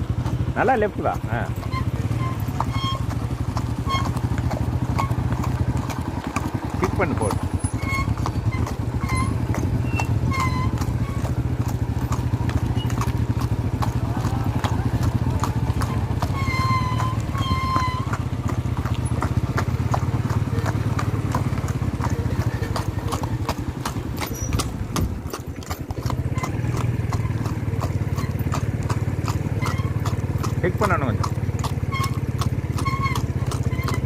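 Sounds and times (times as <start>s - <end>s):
horse hooves clip-clopping: 0.0s - 34.0s.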